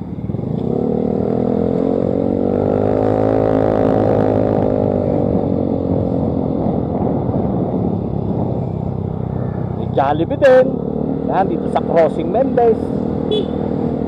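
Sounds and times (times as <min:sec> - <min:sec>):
motorcycle engine accelerating: 0:00.0 - 0:14.0
road and wind noise: 0:00.0 - 0:14.0.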